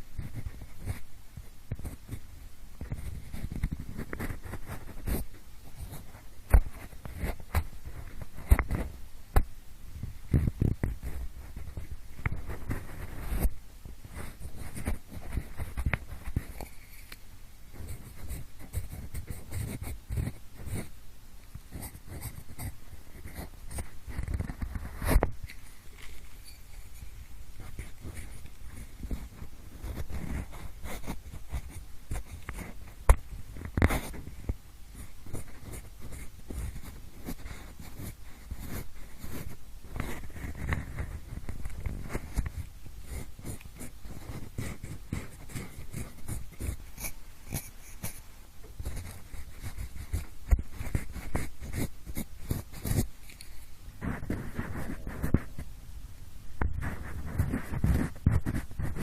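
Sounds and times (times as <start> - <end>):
pencil scratching on microphone: 0.0 - 1.1, 1.7 - 2.2, 2.8 - 9.0, 10.3 - 21.0, 21.6 - 55.7, 56.6 - 59.0.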